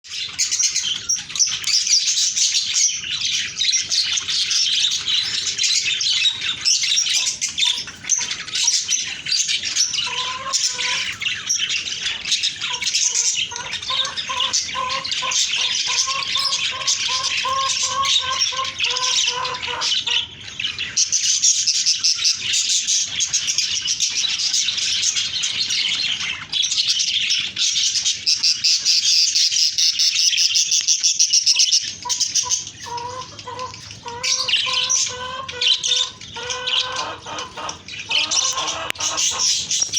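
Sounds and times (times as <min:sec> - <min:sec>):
budgerigars chattering and chirping: 0:00.1 - 0:39.9.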